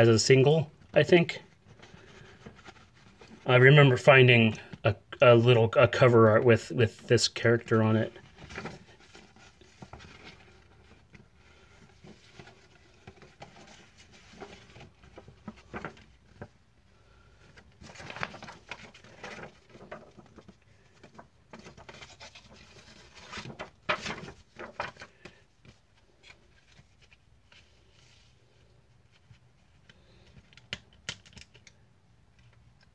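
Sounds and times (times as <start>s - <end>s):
paper booklet rustling: 0.0s - 4.9s, 7.2s - 31.8s.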